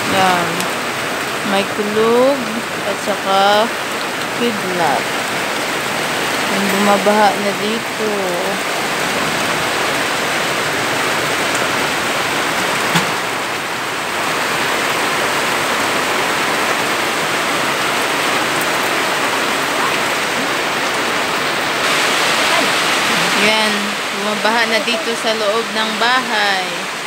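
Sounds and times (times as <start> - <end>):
heavy rain on standing water: 0.0 - 27.0.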